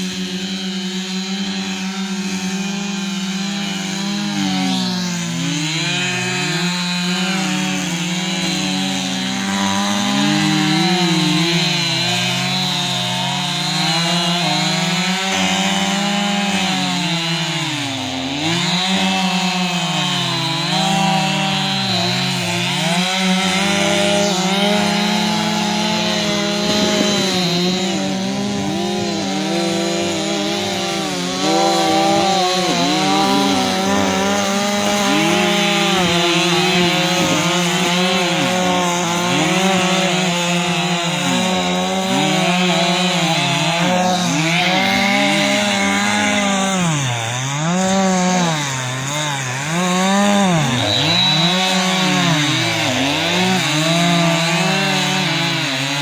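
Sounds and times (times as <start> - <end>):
chainsaws cutting ice: 0.0 - 56.0.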